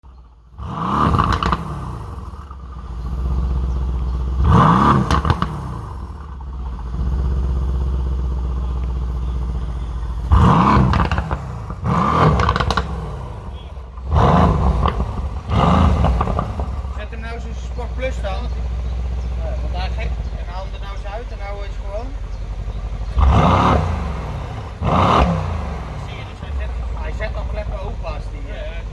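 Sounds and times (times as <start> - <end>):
car engine revving: 0.2 - 28.9.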